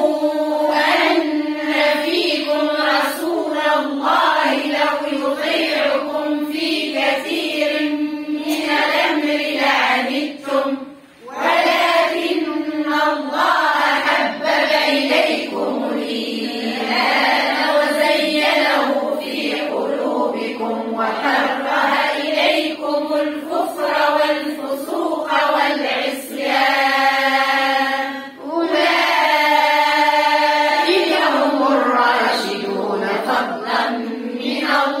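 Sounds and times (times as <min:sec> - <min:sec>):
women chanting recitation in unison: 0:00.0 - 0:35.0.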